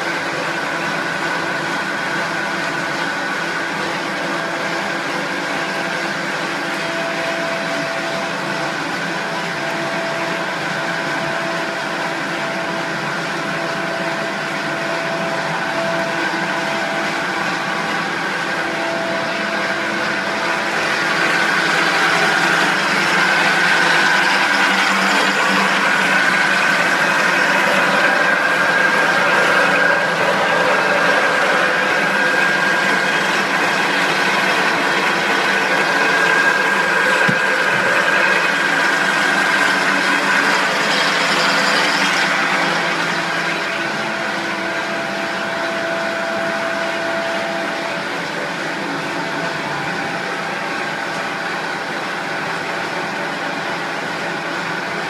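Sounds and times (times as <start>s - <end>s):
machine mechanical drone: 0.0s - 55.0s
whining machine tones: 0.0s - 55.0s.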